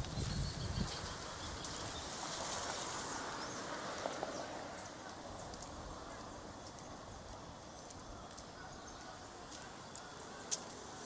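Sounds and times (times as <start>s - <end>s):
small birds chirping: 0.0s - 11.0s
steady background hiss: 0.0s - 11.0s.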